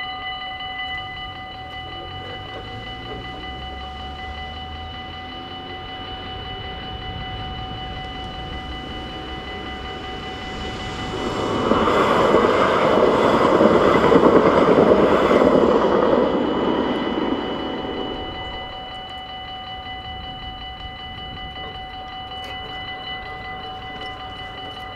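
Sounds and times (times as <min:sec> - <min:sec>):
crossing warning bells ringing: 0:00.0 - 0:24.9
tram rumbling past: 0:00.0 - 0:24.9.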